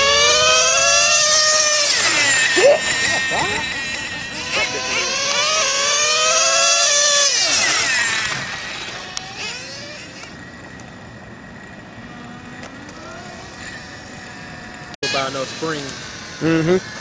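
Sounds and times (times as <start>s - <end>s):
small engine at full throttle: 0.0s - 17.0s.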